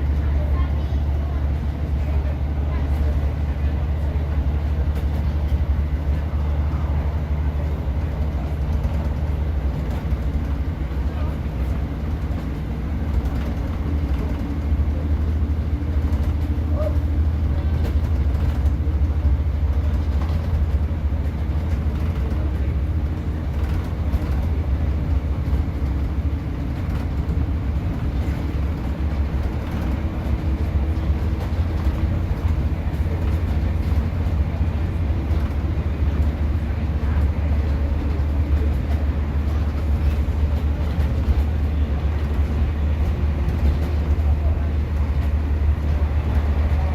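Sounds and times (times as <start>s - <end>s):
train diesel engine rumble: 0.0s - 46.9s
wheels on rail: 0.0s - 46.9s.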